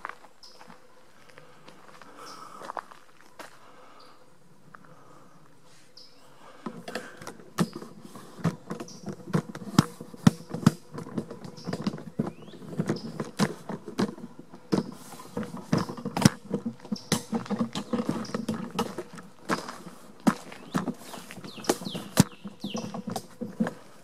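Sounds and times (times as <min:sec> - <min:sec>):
footsteps on gravel and leaves: 0:00.0 - 0:03.6, 0:07.6 - 0:24.0.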